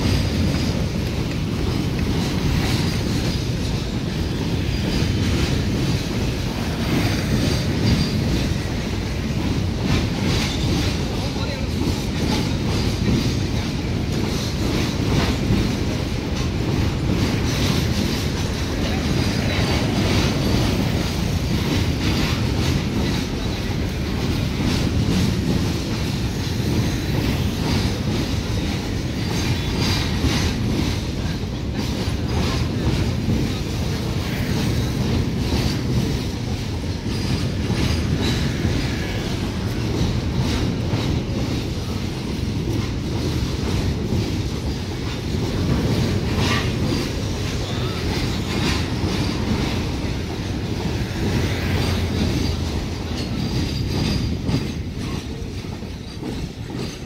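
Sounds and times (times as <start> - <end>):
freight train rumbling past: 0.0 - 57.0
wheels clattering over rail joints: 0.0 - 57.0.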